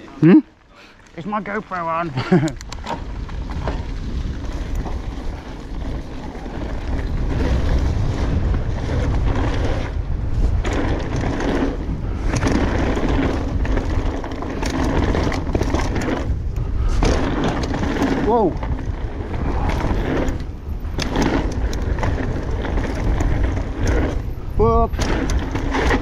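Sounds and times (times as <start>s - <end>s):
bike tyres rolling on dirt: 0.0s - 26.0s
bike knocking and rattling: 0.9s - 26.0s
wind rumble on microphone: 1.4s - 26.0s.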